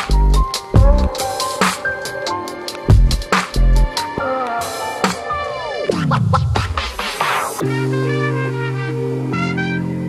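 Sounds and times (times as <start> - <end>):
electronic music: 0.0 - 10.0.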